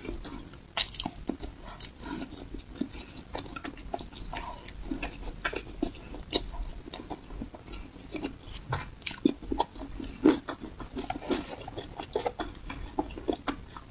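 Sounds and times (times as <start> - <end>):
person chewing meat: 0.0 - 13.9
mouth smacks and clicks: 0.1 - 13.9.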